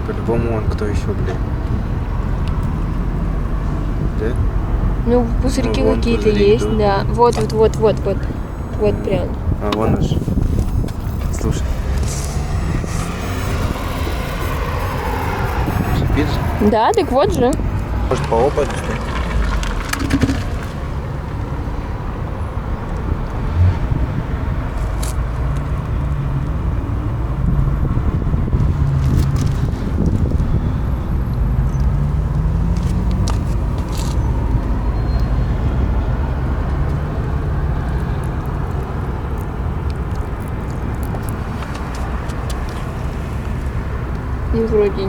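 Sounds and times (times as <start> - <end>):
road traffic rumble: 0.0 - 45.0
vehicles passing: 0.0 - 45.0.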